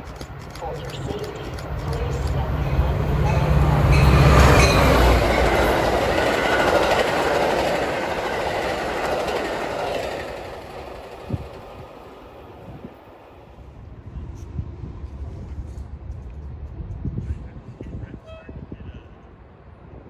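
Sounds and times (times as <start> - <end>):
wheel and rail noise: 0.0 - 17.0
train passing: 0.0 - 18.5.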